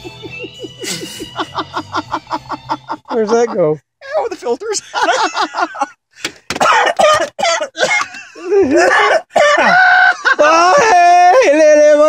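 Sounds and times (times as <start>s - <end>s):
man laughing loudly: 0.0s - 6.0s, 7.8s - 11.6s.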